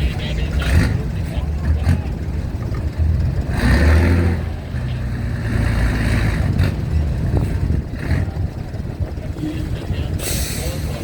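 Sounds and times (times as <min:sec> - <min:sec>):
heavy vehicle engines rumbling: 0:00.0 - 0:11.0.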